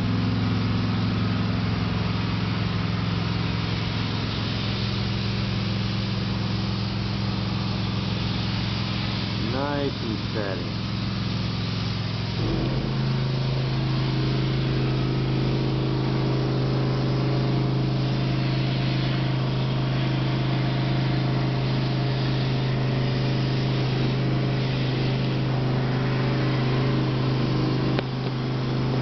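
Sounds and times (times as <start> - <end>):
low machine hum: 0.0 - 29.0
sandblaster hissing: 0.1 - 29.0.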